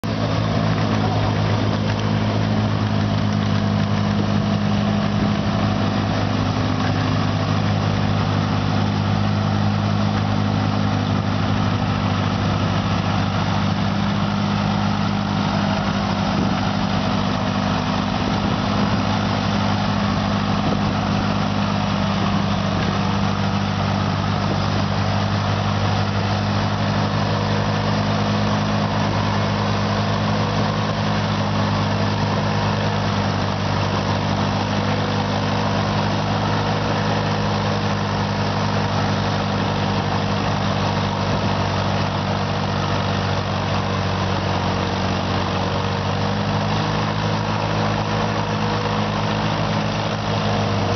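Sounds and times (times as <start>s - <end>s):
tractor engine running under load: 0.0s - 50.9s.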